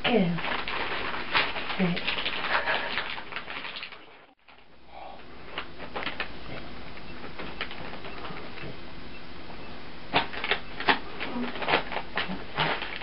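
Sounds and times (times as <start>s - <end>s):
wrapping paper crinkling: 0.0s - 4.7s, 5.4s - 8.5s, 10.1s - 13.0s.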